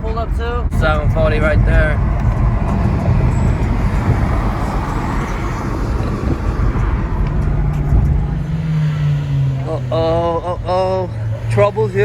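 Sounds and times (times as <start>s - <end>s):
car engine and exhaust running: 0.0s - 12.0s
road noise: 0.0s - 12.0s
steady low drone: 0.7s - 12.0s.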